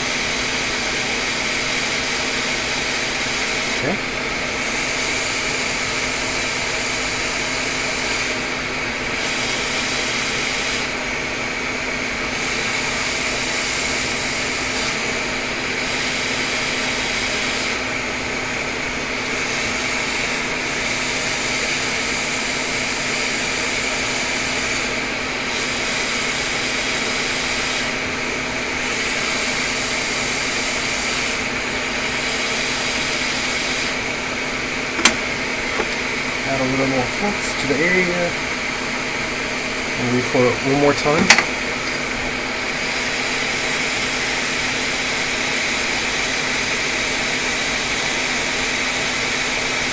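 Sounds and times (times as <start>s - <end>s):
hot-air blower hissing: 0.0s - 49.9s.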